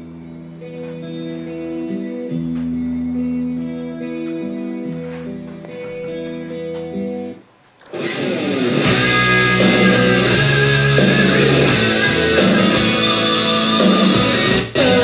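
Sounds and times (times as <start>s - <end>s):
rock music with electric guitar: 0.0s - 15.0s
soft guitar music: 0.0s - 15.0s.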